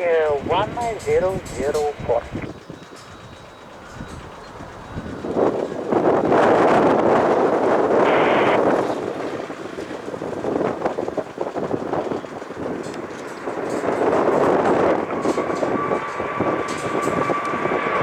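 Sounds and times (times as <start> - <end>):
gusty wind buffeting microphone: 0.0 - 18.0.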